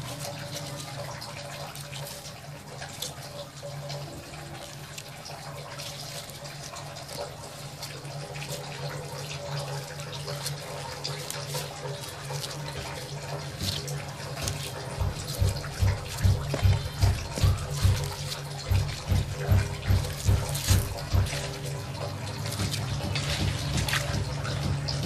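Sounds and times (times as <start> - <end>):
leafy greens rustling: 0.0 - 25.0.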